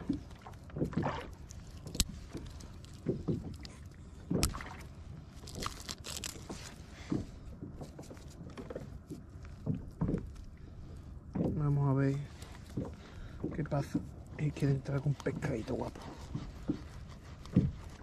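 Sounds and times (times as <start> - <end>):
fishing gear knocks and rustles: 0.0 - 10.6, 11.3 - 18.0.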